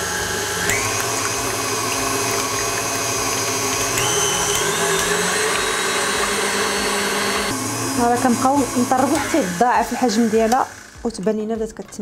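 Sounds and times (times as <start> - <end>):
stand mixer whisking: 0.0 - 11.2.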